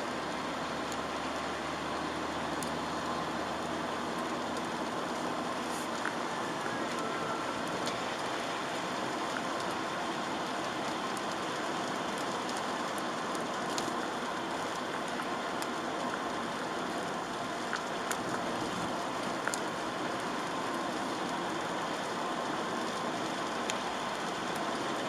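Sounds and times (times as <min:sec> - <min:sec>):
rain and wet road hiss: 0:00.0 - 0:25.0
raindrops ticking on car: 0:00.0 - 0:25.0.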